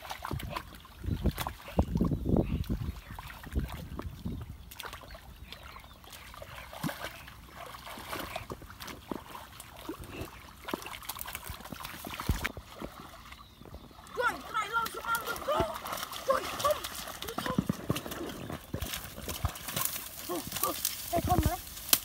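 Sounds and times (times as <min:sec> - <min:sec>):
hands sloshing in muddy water: 0:00.0 - 0:22.0
small splashes and trickles: 0:00.0 - 0:22.0.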